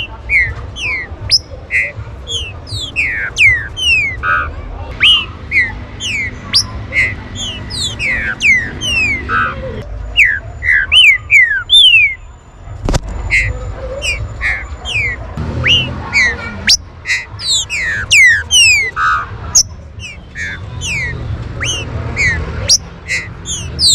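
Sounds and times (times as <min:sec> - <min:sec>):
birds whistling: 0:00.0 - 0:12.3, 0:13.2 - 0:23.9.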